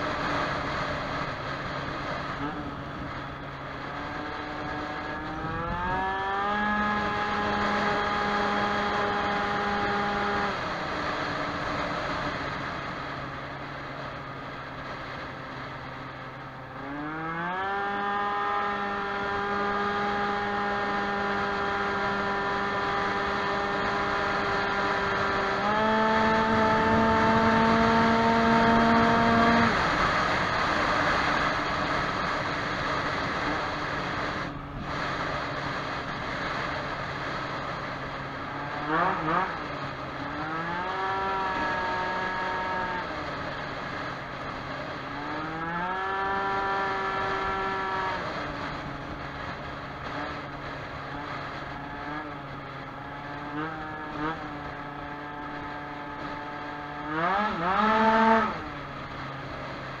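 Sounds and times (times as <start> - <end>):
two-stroke scooter engine accelerating: 0.0 - 60.0.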